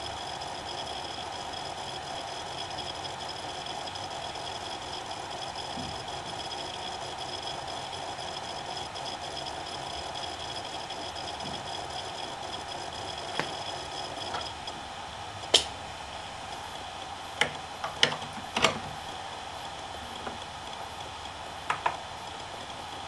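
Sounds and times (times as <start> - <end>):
hard drive clicks: 0.0 - 23.0
hard drive spinning with whine: 0.0 - 23.0.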